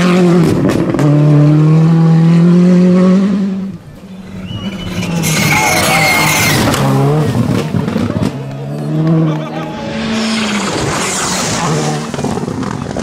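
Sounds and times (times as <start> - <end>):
distant rally car approaching: 0.0 - 13.0
rally car engine at full throttle: 0.0 - 13.0.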